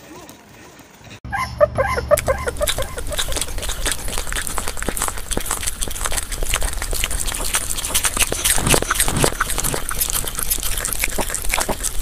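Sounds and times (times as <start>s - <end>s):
puppy chewing food: 1.8s - 12.0s.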